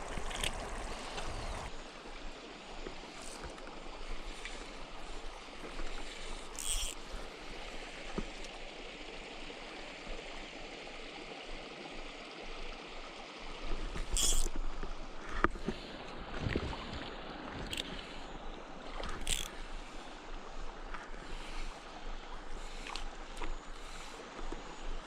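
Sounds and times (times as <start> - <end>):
water lapping: 0.0 - 9.1, 13.7 - 25.0.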